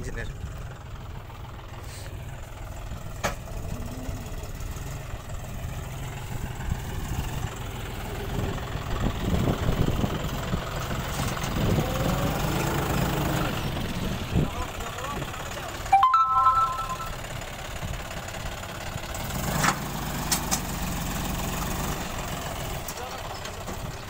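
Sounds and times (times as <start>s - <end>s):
tractor engine under load: 0.3s - 15.9s, 17.2s - 24.0s.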